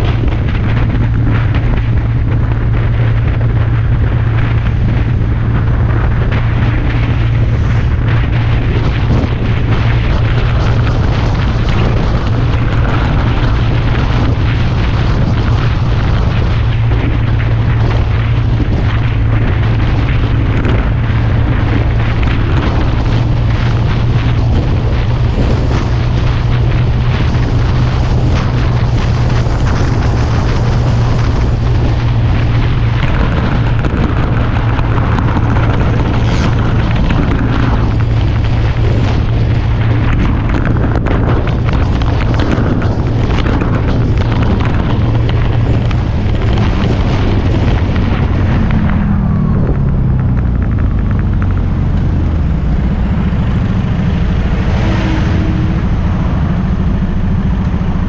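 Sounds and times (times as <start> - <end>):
low engine drone: 0.0 - 58.0
wind rushing over camera: 0.0 - 58.0.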